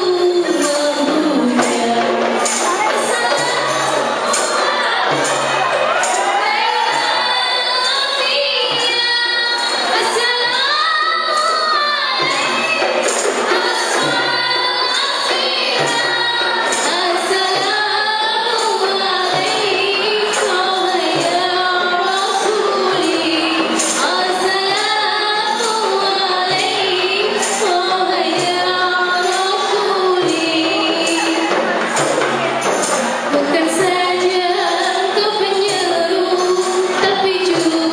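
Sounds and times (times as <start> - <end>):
women singing together: 0.0 - 32.1, 32.8 - 37.9
frame drums beating: 0.0 - 37.9.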